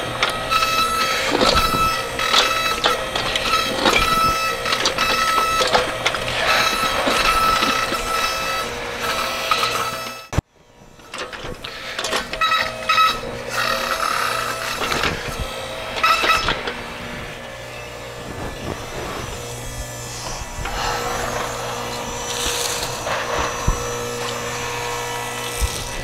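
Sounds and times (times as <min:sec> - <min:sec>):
hydraulic pump whining: 0:00.0 - 0:26.0.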